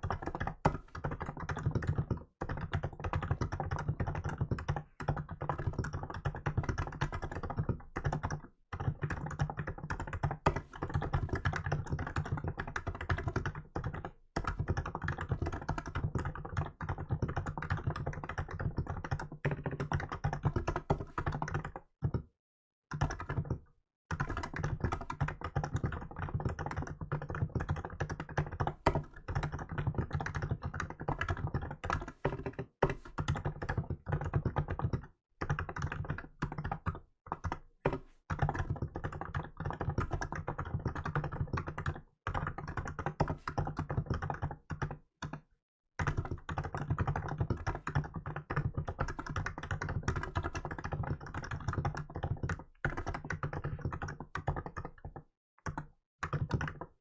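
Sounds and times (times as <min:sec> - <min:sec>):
fast keyboard typing: 0:00.0 - 0:22.3, 0:22.9 - 0:57.0.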